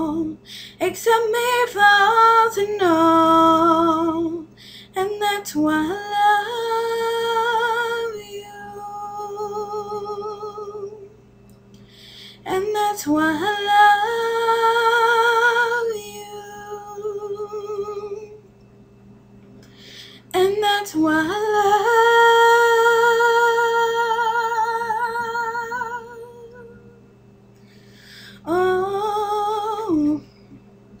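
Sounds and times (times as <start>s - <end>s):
woman singing love song: 0.0s - 11.2s, 11.8s - 18.5s, 20.0s - 27.1s, 28.2s - 30.6s.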